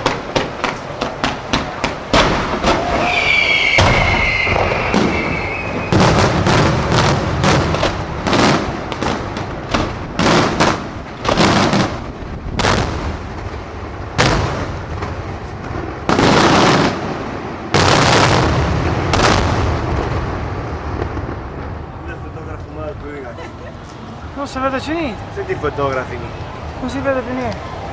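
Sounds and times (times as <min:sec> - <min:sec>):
firework booms: 0:00.0 - 0:27.9.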